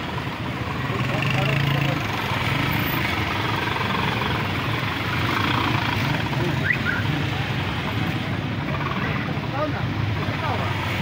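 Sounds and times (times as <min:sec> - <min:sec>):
vehicle engines idling: 0:00.0 - 0:11.0.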